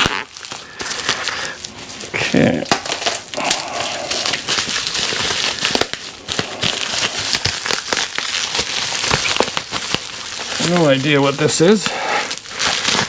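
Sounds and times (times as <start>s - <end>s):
packaging crinkling rustle: 0.0s - 13.0s.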